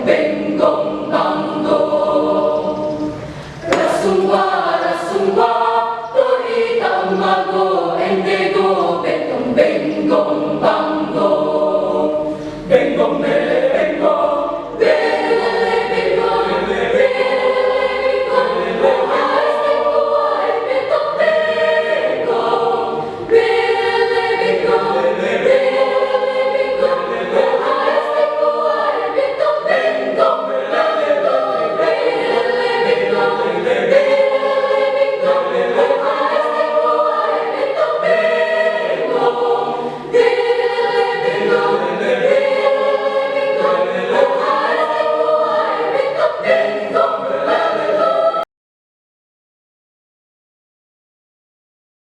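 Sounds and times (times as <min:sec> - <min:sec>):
choir singing in parts: 0:00.0 - 0:48.5.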